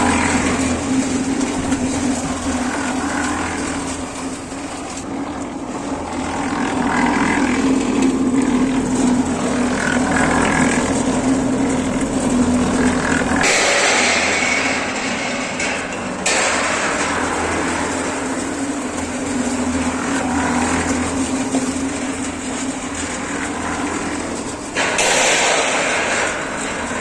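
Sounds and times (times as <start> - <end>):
mixer motor humming: 0.0 - 25.0
mixer drum churning: 0.0 - 27.0.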